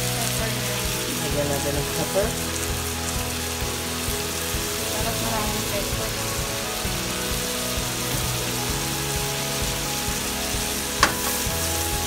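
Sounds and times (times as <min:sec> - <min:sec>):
background music: 0:00.0 - 0:12.0
chicken sizzling in a pan: 0:00.0 - 0:12.0.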